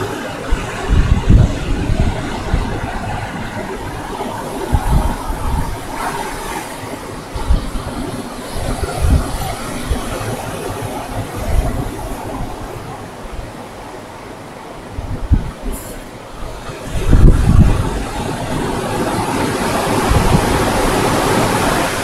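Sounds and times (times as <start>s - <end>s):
surf breaking on beach: 0.0s - 13.8s, 15.0s - 22.0s
wind buffeting microphone: 0.0s - 22.0s.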